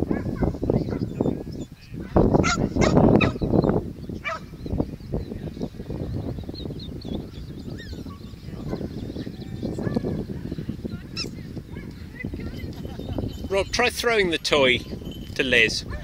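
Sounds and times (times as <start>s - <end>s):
small birds singing: 0.0s - 16.0s
wind buffeting microphone: 0.0s - 16.0s.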